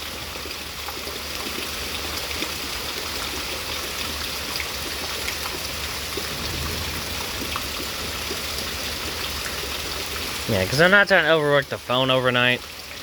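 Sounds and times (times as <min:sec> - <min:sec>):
heavy rain: 0:00.0 - 0:13.0
water dripping: 0:00.4 - 0:13.0.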